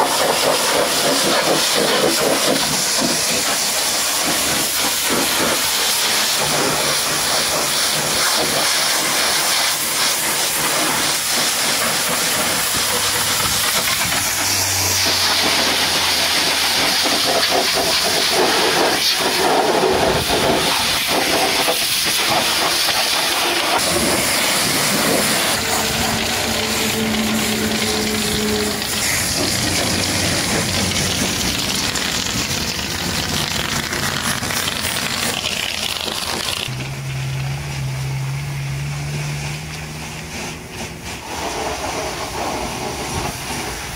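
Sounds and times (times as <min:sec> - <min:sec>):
pressure washer jet hissing: 0:00.0 - 0:43.9.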